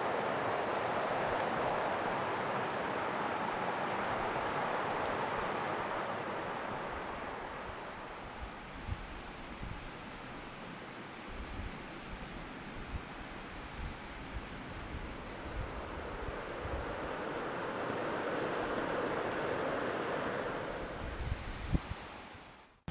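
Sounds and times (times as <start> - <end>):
open-air hiss: 0.0 - 22.9.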